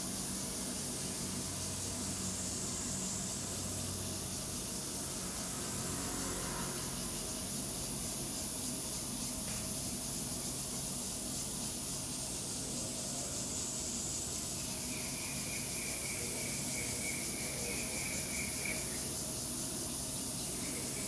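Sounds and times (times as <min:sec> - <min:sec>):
insect drone: 0:00.0 - 0:21.0
thin high insect trill: 0:00.0 - 0:21.0.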